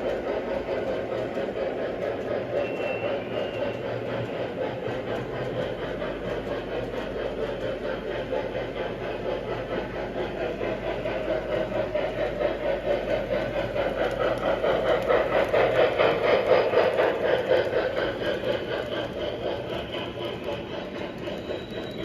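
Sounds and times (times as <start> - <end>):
model train motor hum: 0.0 - 22.0
wheels clicking over rails: 0.0 - 22.0.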